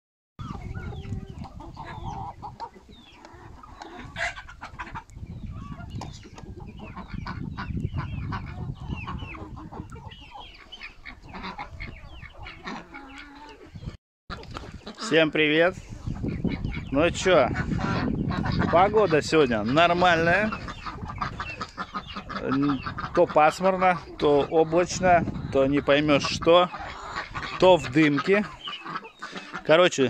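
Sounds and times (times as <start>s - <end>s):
chickens clucking: 0.4s - 30.0s.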